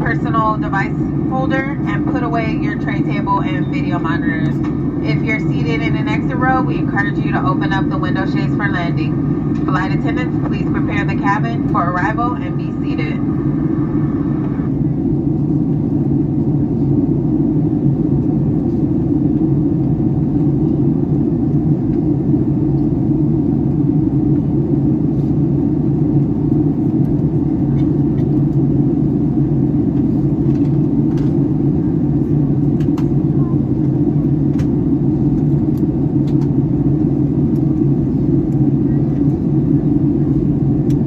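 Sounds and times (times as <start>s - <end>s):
airplane cabin rumble: 0.0s - 41.0s.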